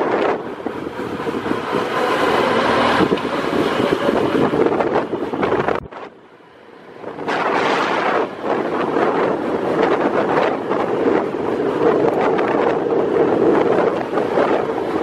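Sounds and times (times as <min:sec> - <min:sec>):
vehicle and road noise: 0:00.0 - 0:15.0
wind rushing over microphone: 0:00.0 - 0:15.0.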